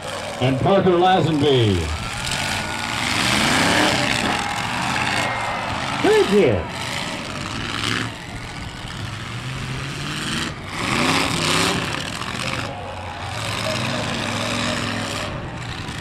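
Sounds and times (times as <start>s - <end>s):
car engines revving: 0.0s - 16.0s
rush of noise: 1.3s - 16.0s.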